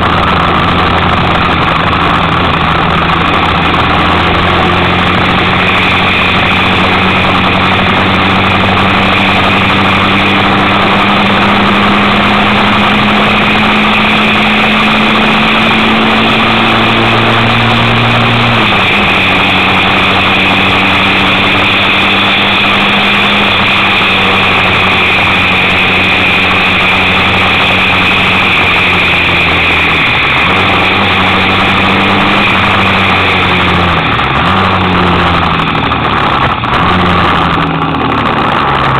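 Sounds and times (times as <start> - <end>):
motorcycle engine running: 0.0 - 38.9
steady rushing noise: 0.0 - 38.9.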